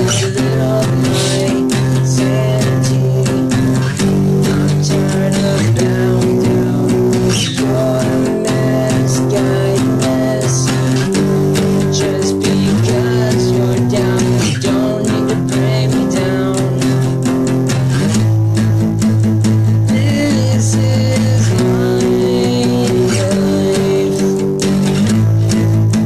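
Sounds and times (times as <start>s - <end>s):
bass guitar: 0.0s - 26.0s
guitar playing: 0.0s - 26.0s.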